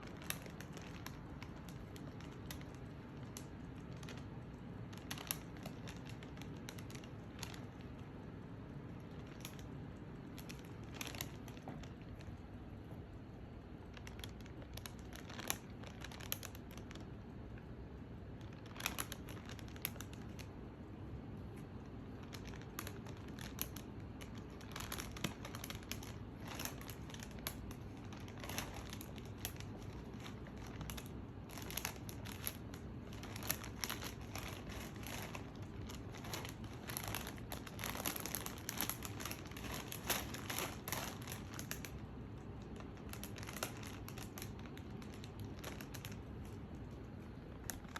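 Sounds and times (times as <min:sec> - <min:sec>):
chip packet crinkling: 0:00.0 - 0:47.9.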